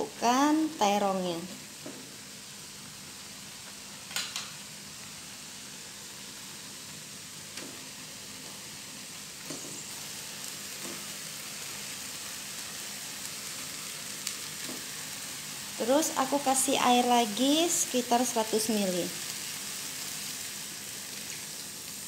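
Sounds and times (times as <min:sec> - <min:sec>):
paste sizzling in a frying pan: 0:00.0 - 0:22.0.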